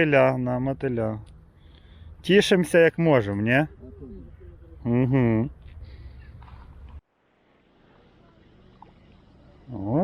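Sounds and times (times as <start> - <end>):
faint outdoor background hiss: 0.0 - 10.0.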